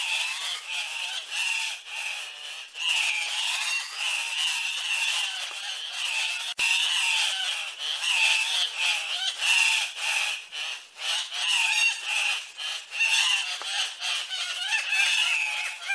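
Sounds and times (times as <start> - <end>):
bird harsh squawks: 0.0 - 15.9.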